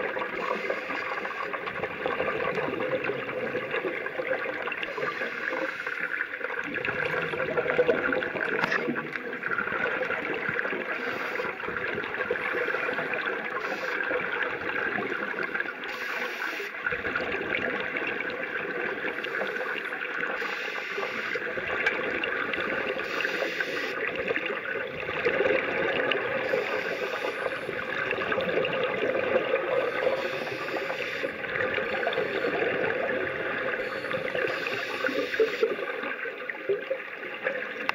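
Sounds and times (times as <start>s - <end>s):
underwater bubbles gurgling: 0.0s - 37.9s.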